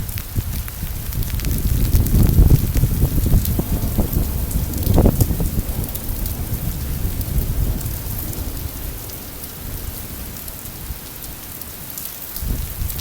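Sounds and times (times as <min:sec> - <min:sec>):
low rumble of thunder: 0:00.0 - 0:13.0
steady rain falling: 0:00.0 - 0:13.0.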